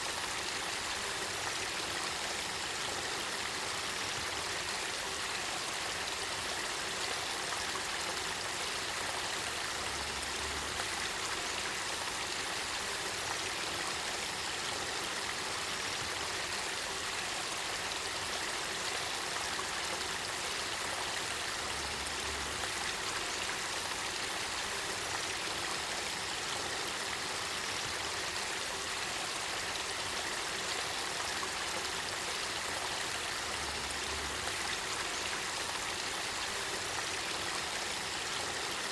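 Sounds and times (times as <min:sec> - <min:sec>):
spring water flowing: 0:00.0 - 0:38.9.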